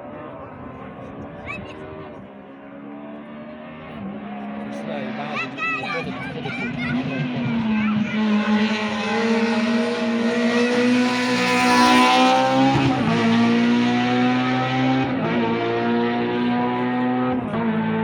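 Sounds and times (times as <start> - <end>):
rally car engine driving past: 0.0 - 18.0.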